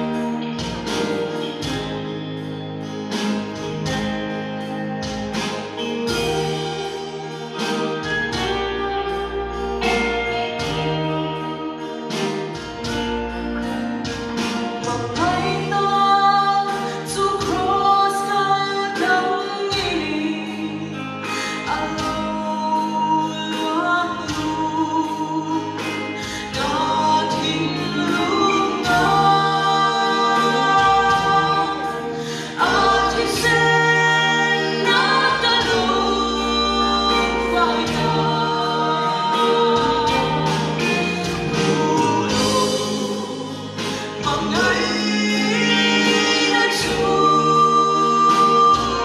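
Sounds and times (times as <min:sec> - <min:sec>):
live band playing: 0:00.0 - 0:49.0
vocalists singing in harmony: 0:00.0 - 0:49.0.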